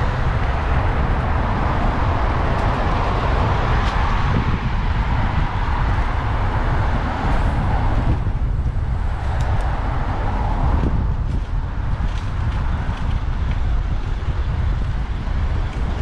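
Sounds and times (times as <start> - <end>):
passing road traffic: 0.0 - 16.0
wind rumble on microphone: 0.0 - 16.0.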